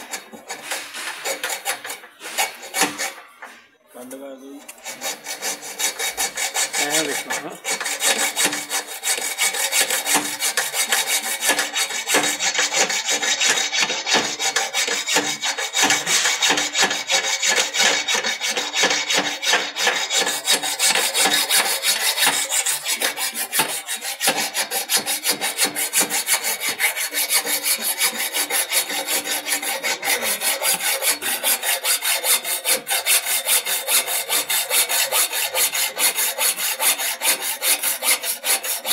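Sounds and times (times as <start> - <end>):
hacksaw cutting metal: 0.0 - 3.6, 4.6 - 38.9.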